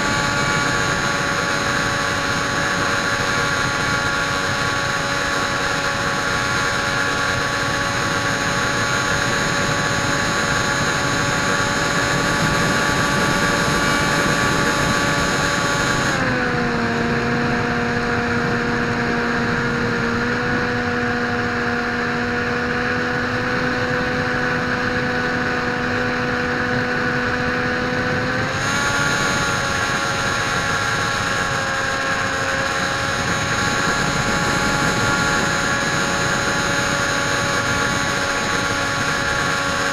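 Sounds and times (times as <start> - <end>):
model airplane motor whining: 0.0 - 39.9.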